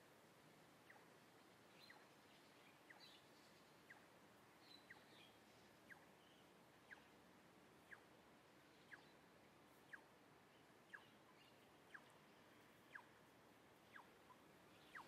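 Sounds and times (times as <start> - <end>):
faint bird chirps: 0.8 - 7.2, 7.8 - 15.0.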